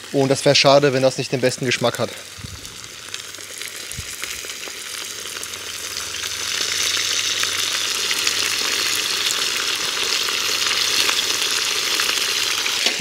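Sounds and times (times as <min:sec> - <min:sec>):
meat sizzling in fat: 0:00.0 - 0:13.0.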